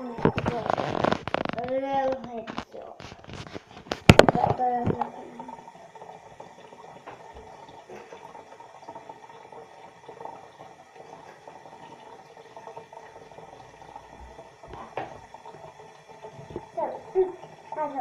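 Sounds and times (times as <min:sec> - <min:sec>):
faint running water: 0:00.0 - 0:18.0.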